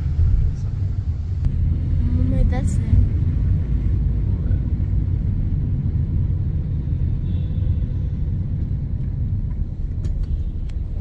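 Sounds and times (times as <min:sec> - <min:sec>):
car interior engine and road rumble: 0:00.0 - 0:11.0.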